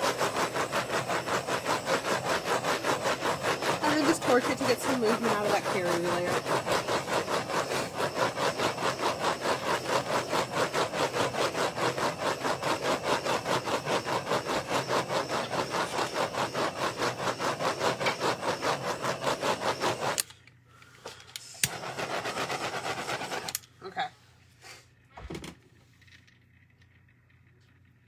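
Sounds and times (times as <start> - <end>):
butane torch rasping: 0.0 - 20.3, 21.0 - 24.0.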